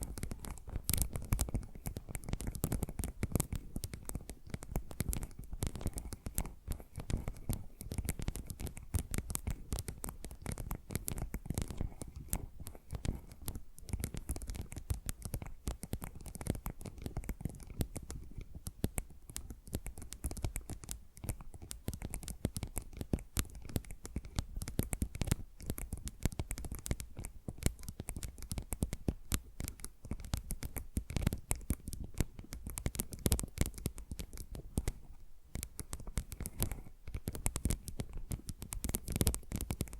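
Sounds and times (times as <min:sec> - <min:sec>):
fingernails scratching and tapping: 0:00.0 - 0:39.9.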